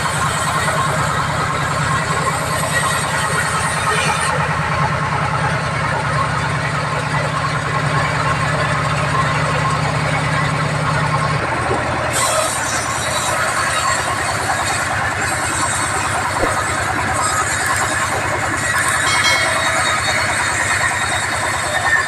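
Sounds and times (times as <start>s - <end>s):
sawmill machinery pulsing drone: 0.0s - 22.0s.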